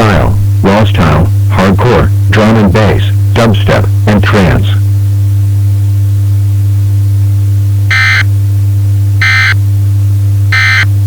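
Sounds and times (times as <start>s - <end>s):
loud low hum: 0.0s - 11.0s.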